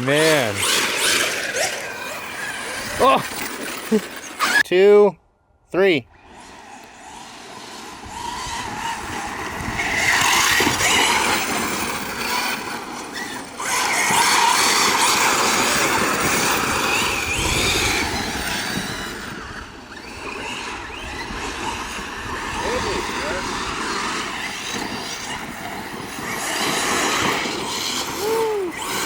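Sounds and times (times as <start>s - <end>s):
electric rc cars racing past: 0.0s - 4.7s, 5.3s - 29.0s.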